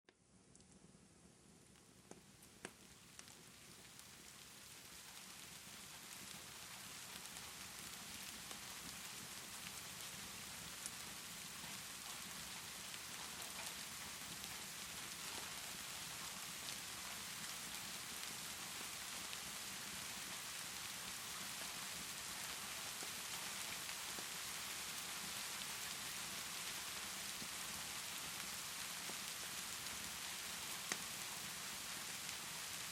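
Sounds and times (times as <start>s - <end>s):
steady rain hissing: 0.7s - 32.9s.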